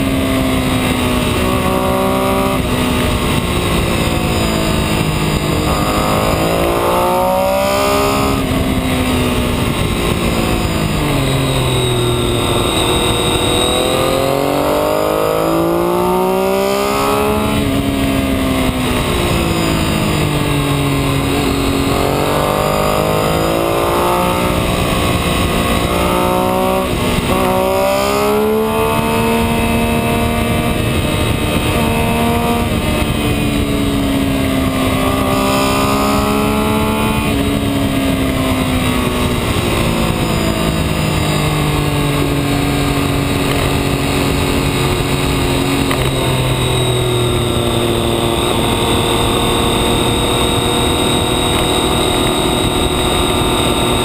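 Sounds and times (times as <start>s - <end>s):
steady rushing noise: 0.0s - 54.0s
vehicle engine revving: 0.0s - 54.0s.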